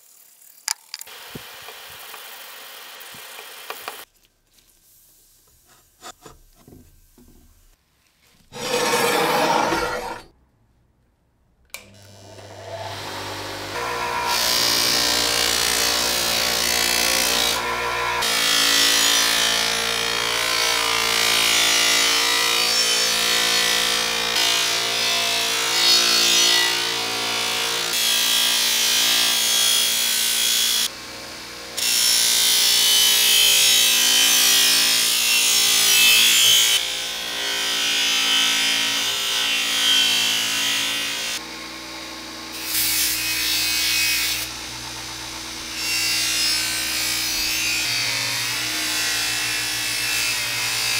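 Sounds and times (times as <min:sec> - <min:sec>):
abrasive power tool scraping: 0:08.5 - 0:10.3, 0:11.8 - 0:50.9.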